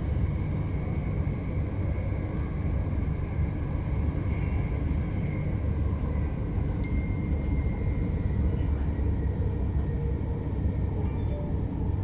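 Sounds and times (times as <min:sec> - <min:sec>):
faint train whine: 0:00.0 - 0:12.0.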